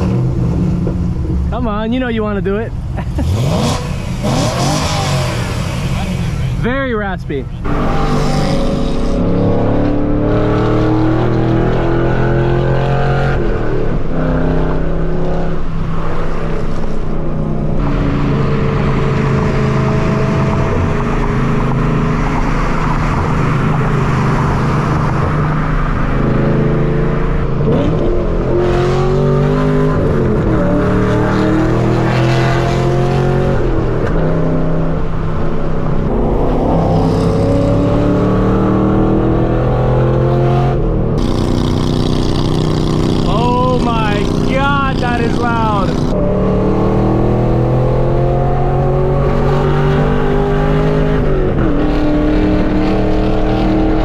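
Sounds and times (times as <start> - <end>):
car exhaust accelerating: 0.0 - 54.0.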